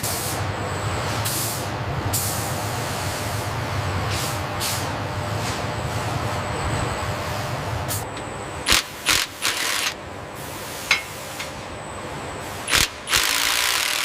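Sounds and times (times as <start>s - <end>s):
machinery humming: 0.0s - 14.0s.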